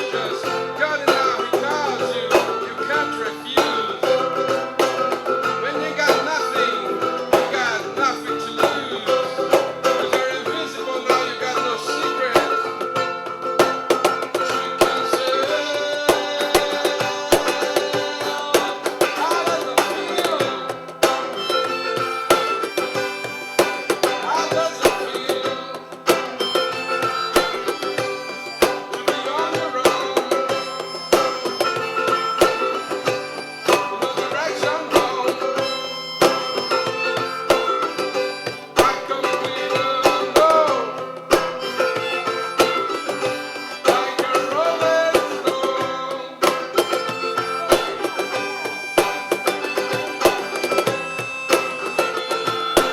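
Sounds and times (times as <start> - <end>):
acoustic guitar: 0.0 - 52.9
hand percussion strikes: 0.0 - 52.9.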